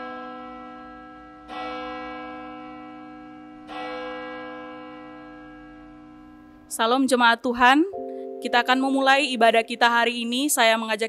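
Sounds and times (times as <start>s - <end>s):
deep bell ringing: 0.0s - 10.4s.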